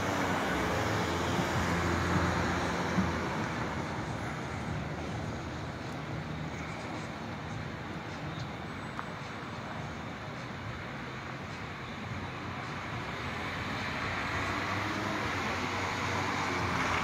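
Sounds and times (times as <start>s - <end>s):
distant traffic hiss: 0.0s - 17.0s.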